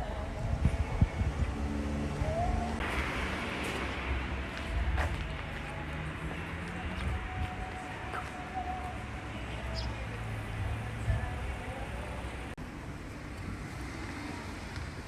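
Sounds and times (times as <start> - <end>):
car driving on road: 0.0 - 15.0.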